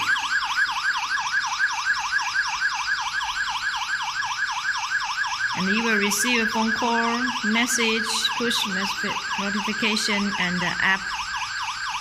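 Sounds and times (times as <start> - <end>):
electronic alarm siren warbling: 0.0 - 12.0.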